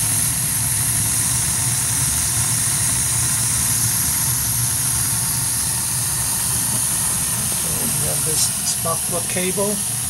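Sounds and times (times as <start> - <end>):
gas boiler burners hissing: 0.0 - 10.0.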